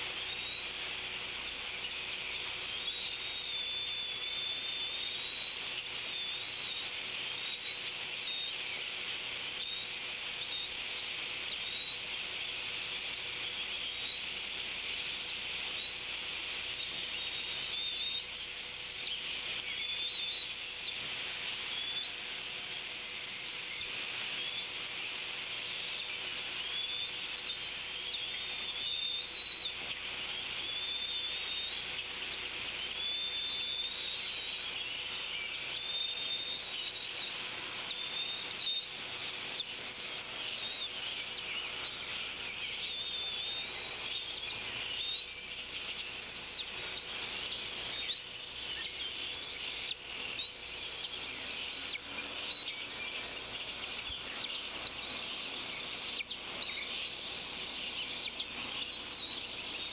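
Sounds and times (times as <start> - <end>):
faint steady hum: 0.0 - 59.9
songbirds singing: 0.0 - 59.9.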